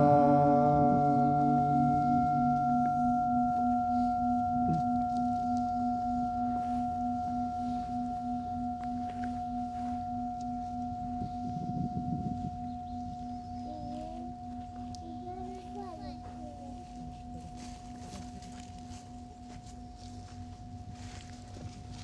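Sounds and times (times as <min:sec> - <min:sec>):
low held tone: 0:00.0 - 0:22.0
singing bowl ringing: 0:00.0 - 0:22.0.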